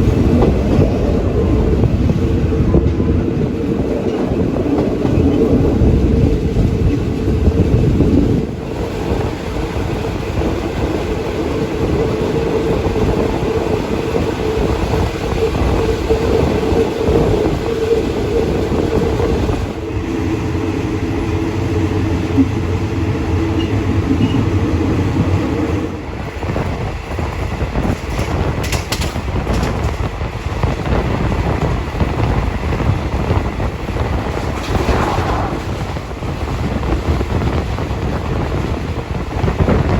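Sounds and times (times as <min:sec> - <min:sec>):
train hum: 0:00.0 - 0:39.9
train wheels rumbling on rail: 0:00.0 - 0:39.9.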